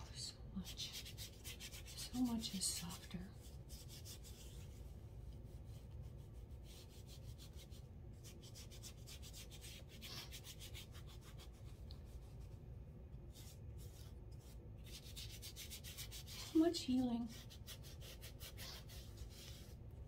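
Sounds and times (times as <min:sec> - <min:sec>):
paintbrush scrubbing on paper: 0:00.6 - 0:20.0.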